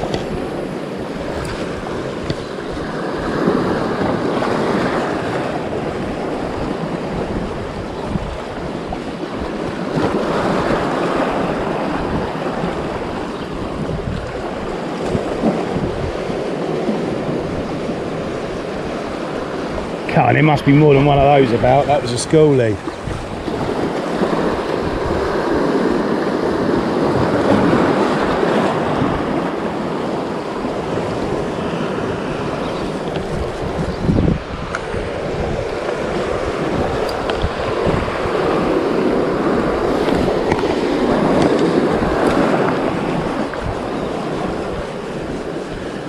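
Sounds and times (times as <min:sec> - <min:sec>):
surf washing over rocks: 0:00.0 - 0:46.0
wind on microphone: 0:00.0 - 0:46.0.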